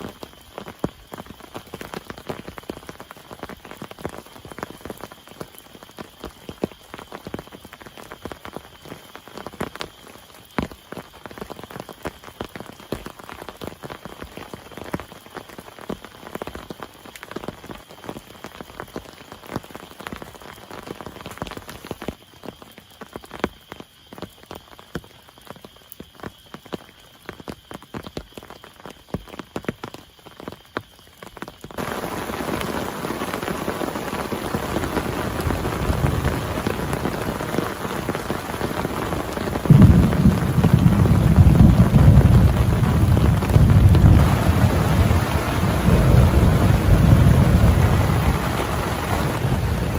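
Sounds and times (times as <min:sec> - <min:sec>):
heavy steady downpour: 0:00.0 - 0:49.9
rain drops striking a surface: 0:00.0 - 0:49.9.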